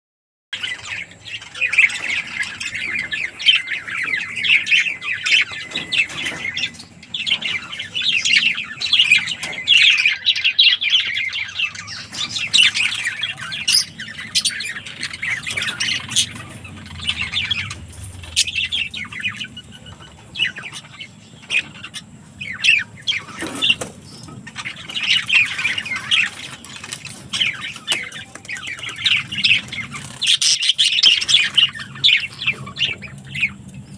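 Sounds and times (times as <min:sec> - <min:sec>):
budgerigars chattering: 0:00.6 - 0:33.9.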